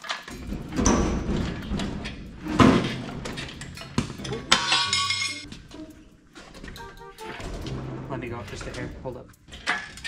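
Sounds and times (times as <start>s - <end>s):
metal clunks and scraping: 0.0s - 10.0s
rattling scrape: 0.0s - 10.0s.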